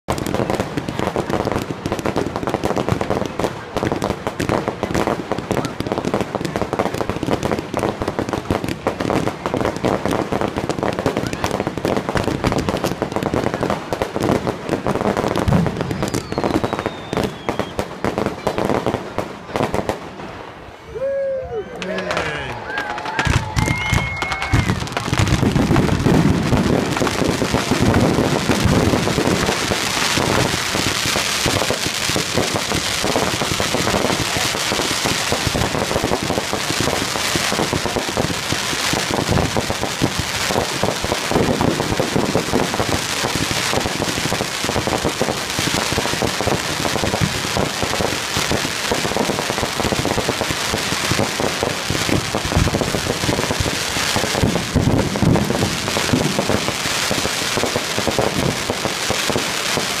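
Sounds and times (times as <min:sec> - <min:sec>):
fireworks bangs and crackling: 0:00.0 - 1:00.0.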